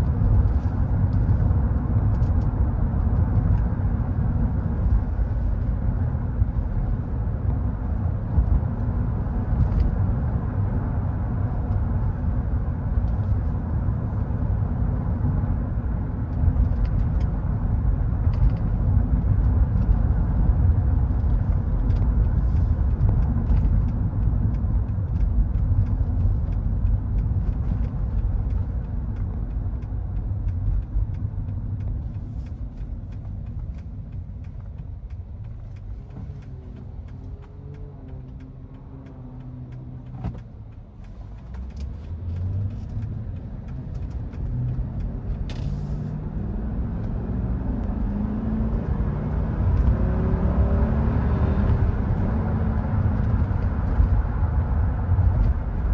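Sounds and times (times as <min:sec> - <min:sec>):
car engine rumbling: 0:00.0 - 0:55.9.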